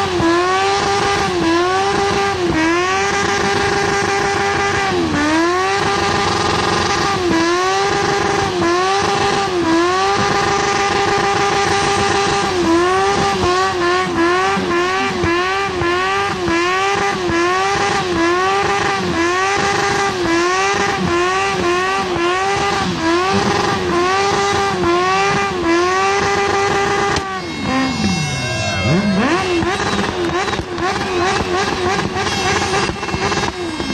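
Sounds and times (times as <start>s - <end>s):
car engine revving hard: 0.0s - 33.9s.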